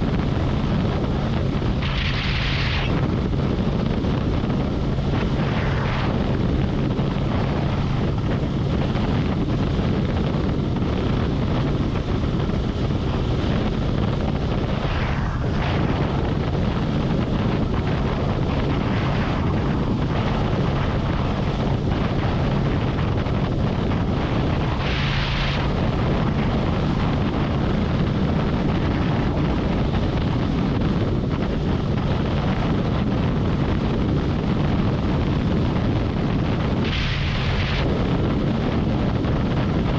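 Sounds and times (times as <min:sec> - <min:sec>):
motorcycle engine and exhaust drone: 0:00.0 - 0:39.9
wind rush on microphone: 0:00.0 - 0:39.9.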